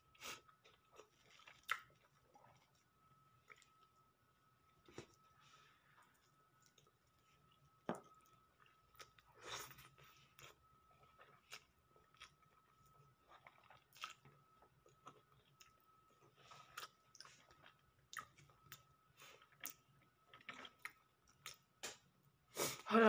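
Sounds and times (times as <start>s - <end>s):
person chewing food: 0.0s - 4.0s, 4.7s - 22.1s.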